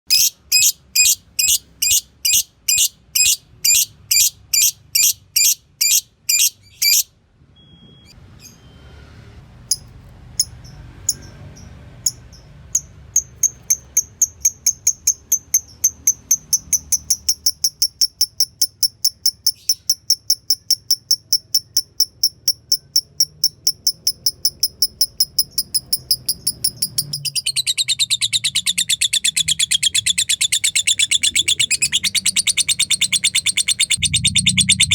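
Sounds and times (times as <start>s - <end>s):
lovebird chirping and trilling: 0.1s - 7.1s, 10.4s - 34.9s.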